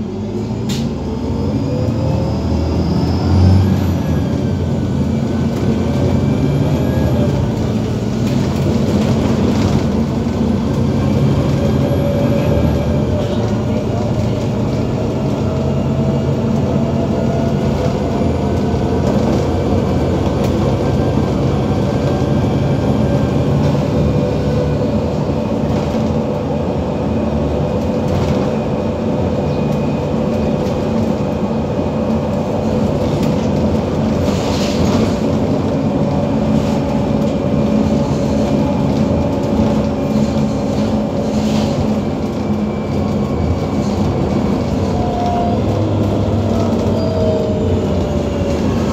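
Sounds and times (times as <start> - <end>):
bus engine hum: 0.0 - 48.9
road noise: 0.0 - 48.9.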